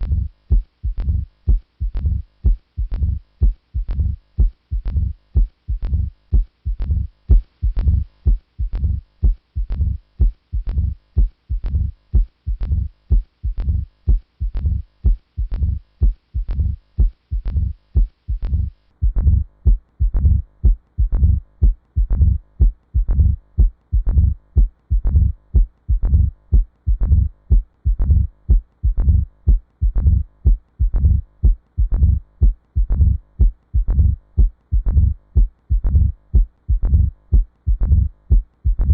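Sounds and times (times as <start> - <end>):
heartbeat through stethoscope: 0.0 - 38.9.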